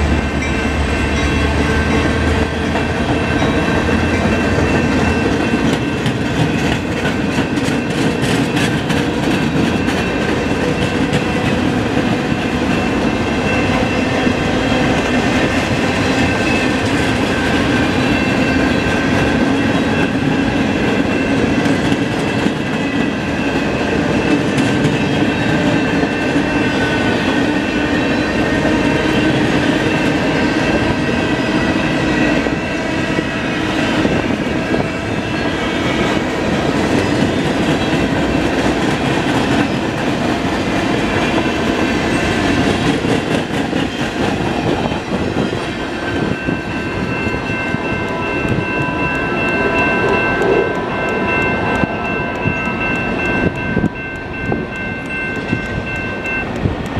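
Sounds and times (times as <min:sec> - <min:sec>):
freight train rolling on rails: 0:00.0 - 0:56.9.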